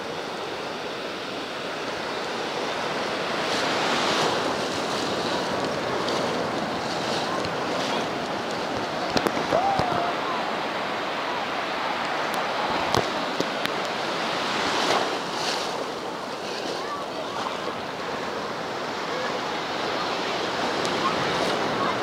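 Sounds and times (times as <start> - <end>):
waves breaking: 0.0 - 22.0.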